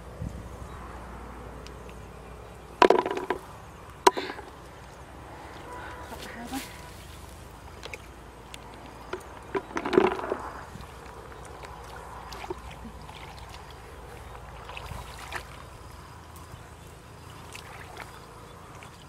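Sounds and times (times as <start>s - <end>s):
splashing in muddy water: 2.8s - 19.0s
water sloshing: 2.8s - 19.0s.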